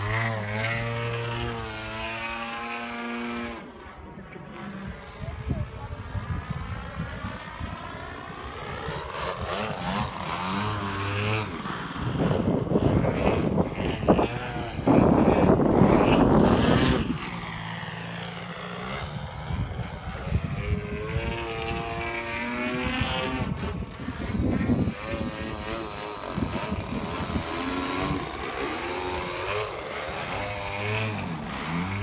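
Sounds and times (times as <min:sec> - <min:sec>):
model airplane engine and propeller: 0:00.0 - 0:32.0.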